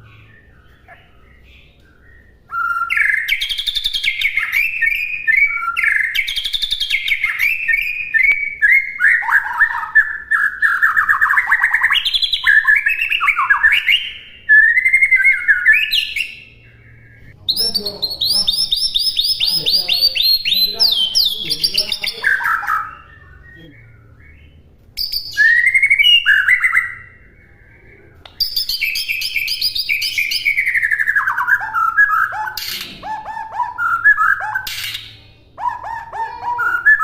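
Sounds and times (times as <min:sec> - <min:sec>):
bird singing whistles and trills: 0:00.0 - 0:37.0.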